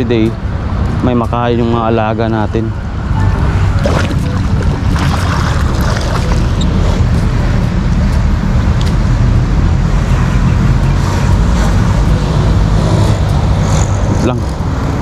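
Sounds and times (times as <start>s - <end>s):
road traffic engine rumble: 0.0s - 15.0s.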